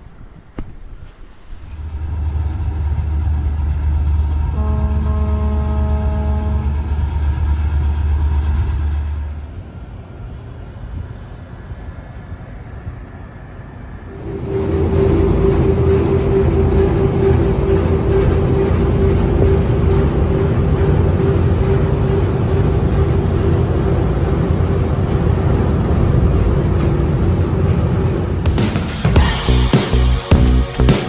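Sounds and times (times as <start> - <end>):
boat diesel engines rumbling: 0.0 - 13.4, 14.1 - 29.7.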